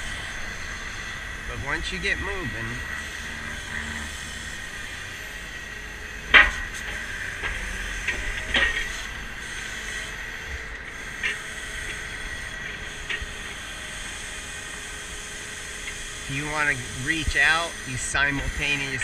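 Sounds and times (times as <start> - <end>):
hydraulic system whine and hiss: 0.0 - 19.0.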